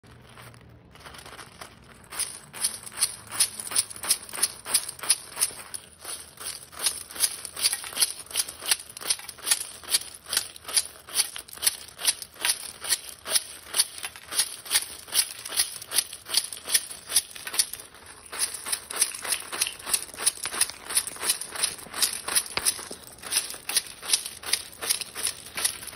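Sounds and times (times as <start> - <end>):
plastic pieces rattling in metal tin: 0.1 - 25.9.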